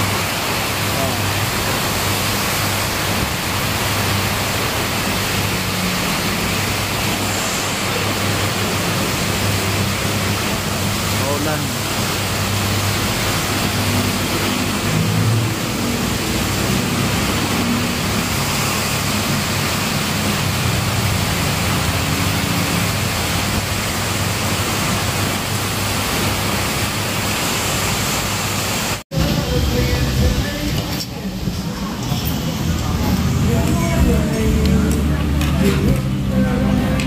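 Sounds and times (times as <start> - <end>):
cars passing on wet road: 0.0 - 37.0
heavy rain pouring: 0.0 - 37.0.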